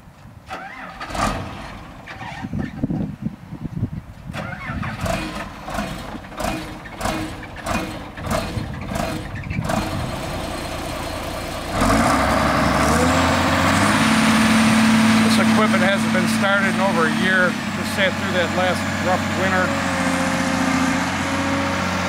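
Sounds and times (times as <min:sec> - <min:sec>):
diesel engine cranking and starting: 0:00.4 - 0:03.0, 0:04.2 - 0:22.0.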